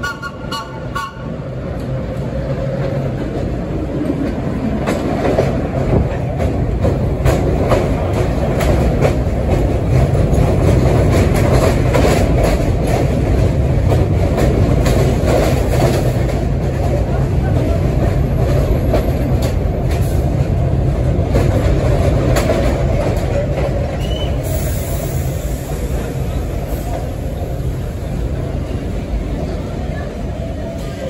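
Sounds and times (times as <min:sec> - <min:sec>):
subway train wheels rumbling: 0:00.0 - 0:31.0.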